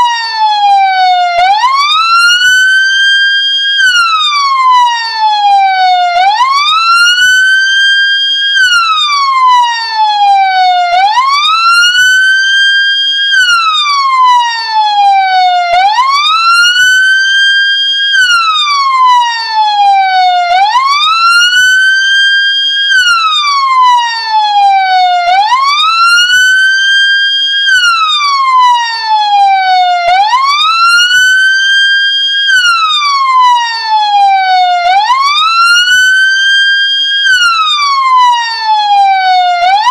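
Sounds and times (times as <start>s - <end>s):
ambulance siren wailing: 0.0s - 39.9s.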